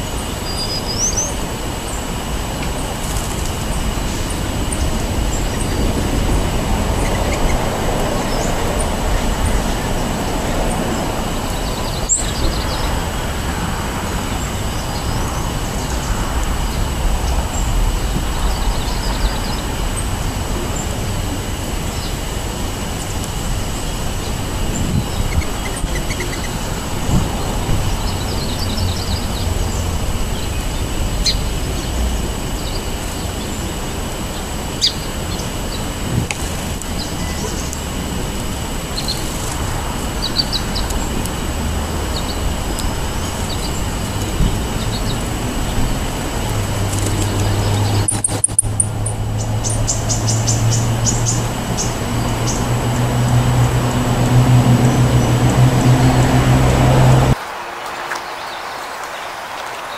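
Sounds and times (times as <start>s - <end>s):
engine hum: 0.0s - 59.9s
road traffic rumble: 0.0s - 59.9s
songbirds chirping: 0.0s - 59.9s.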